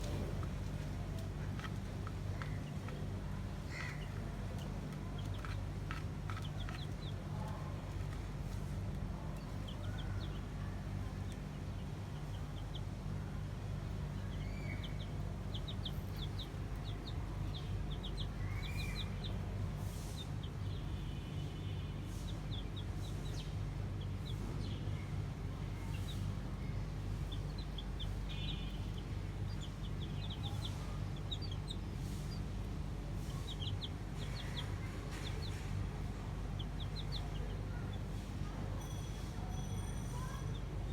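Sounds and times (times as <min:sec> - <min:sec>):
chickens peeping: 0:00.0 - 0:13.1, 0:13.9 - 0:20.8, 0:25.7 - 0:40.9.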